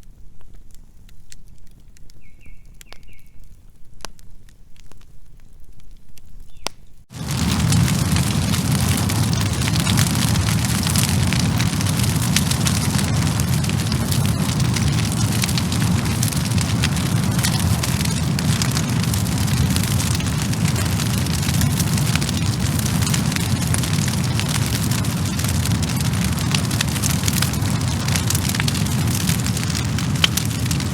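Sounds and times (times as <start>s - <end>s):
wood fire crackling: 0.2s - 30.9s.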